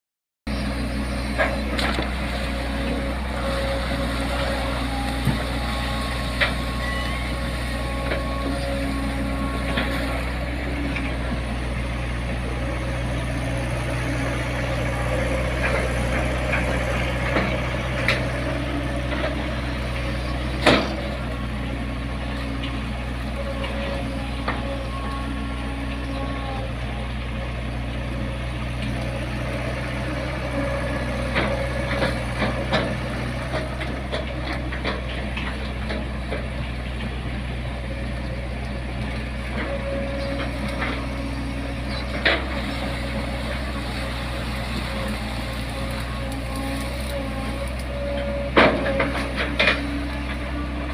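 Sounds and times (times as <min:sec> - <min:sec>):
excavator diesel engine running: 0:00.5 - 0:50.9.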